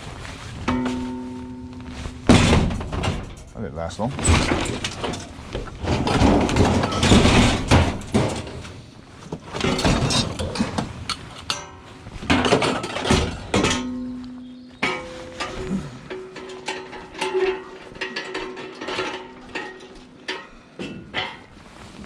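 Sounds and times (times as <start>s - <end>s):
scrap metal clanking: 0.0s - 22.0s.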